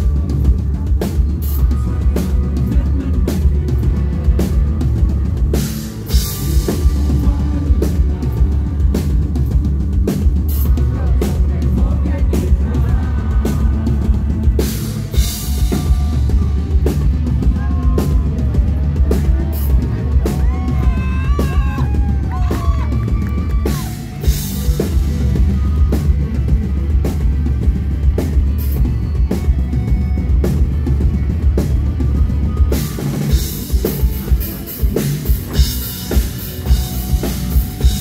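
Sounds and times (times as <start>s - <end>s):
drum kit pounding beat: 0.0s - 38.0s
melodic line with bending notes: 0.0s - 38.0s
rock band playing: 0.0s - 38.0s.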